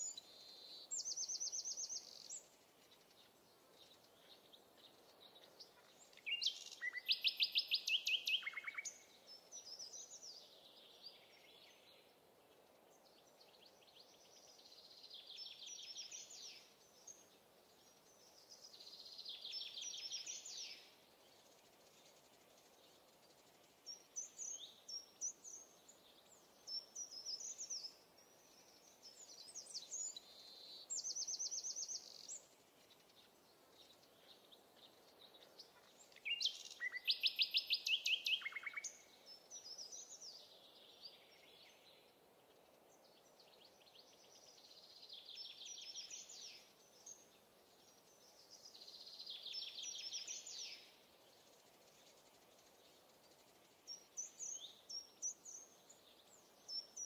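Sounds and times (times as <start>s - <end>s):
faint steady background noise: 0.0s - 57.0s
songbirds singing: 0.0s - 57.0s.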